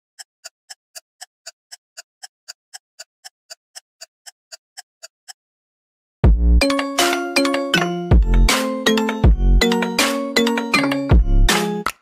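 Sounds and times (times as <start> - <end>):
clock-like ticking: 0.2 - 5.4, 6.6 - 11.2.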